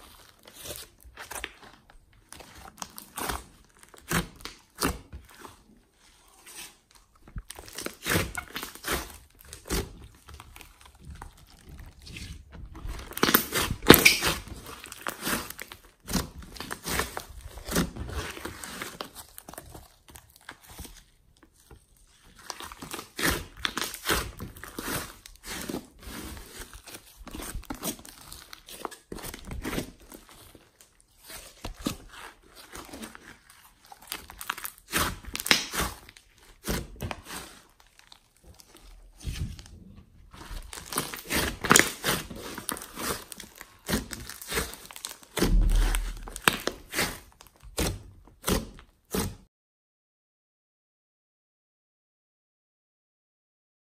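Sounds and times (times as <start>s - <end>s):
hands squishing slime: 0.0s - 49.4s.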